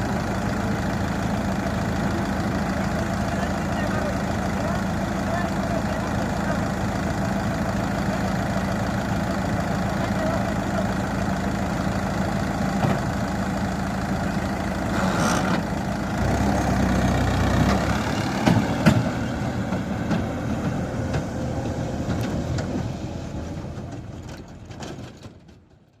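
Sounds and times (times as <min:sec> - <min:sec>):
engine knocks: 0:00.0 - 0:26.0
tractor diesel engine running: 0:00.0 - 0:26.0.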